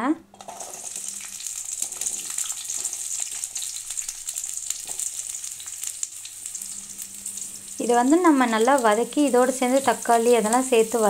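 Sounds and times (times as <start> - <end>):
onions sizzling in hot oil: 0.4 - 11.0.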